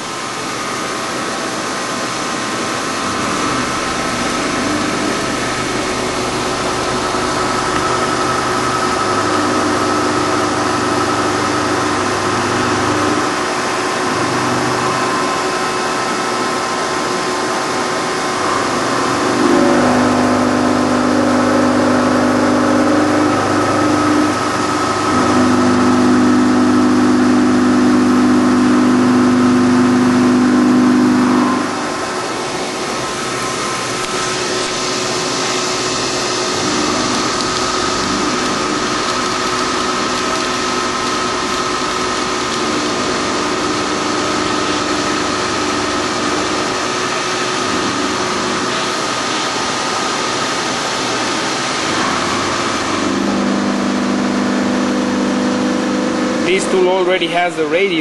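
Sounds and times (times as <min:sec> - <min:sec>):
loud low hum: 0:00.0 - 0:58.0
milling machine spindle whine: 0:00.0 - 0:58.0.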